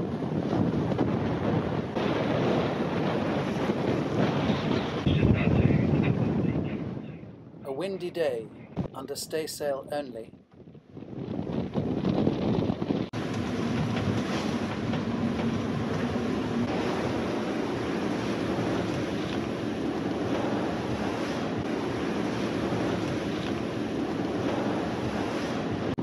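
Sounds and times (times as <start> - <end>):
waves rushing along hull: 0.0 - 7.0, 12.0 - 26.0
wind buffeting microphone: 0.0 - 26.0.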